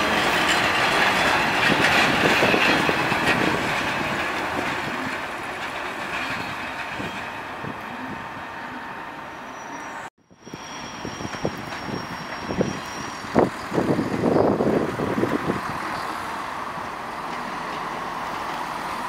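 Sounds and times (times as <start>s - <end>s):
diesel railbus running past: 0.0s - 19.0s.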